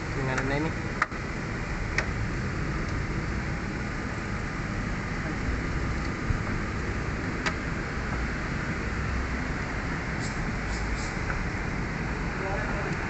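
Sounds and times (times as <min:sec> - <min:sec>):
background rumble and hiss: 0:00.0 - 0:13.0.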